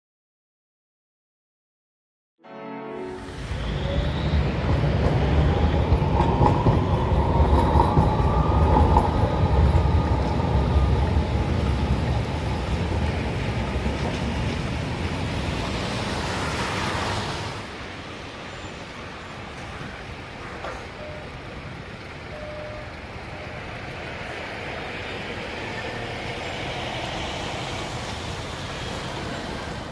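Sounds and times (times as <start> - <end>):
heavy vehicle low rumble: 3.2 - 18.0, 19.0 - 29.9.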